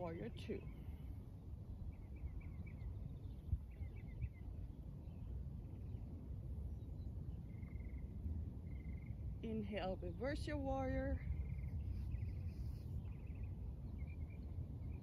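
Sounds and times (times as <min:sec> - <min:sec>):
birds chirping: 0:00.0 - 0:15.0
low outdoor rumble: 0:00.0 - 0:15.0.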